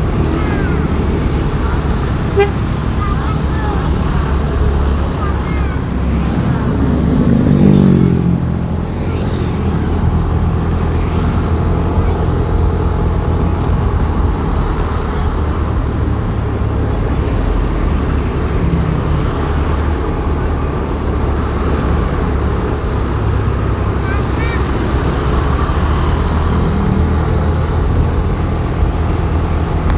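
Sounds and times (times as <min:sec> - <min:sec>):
road noise: 0:00.0 - 0:29.9.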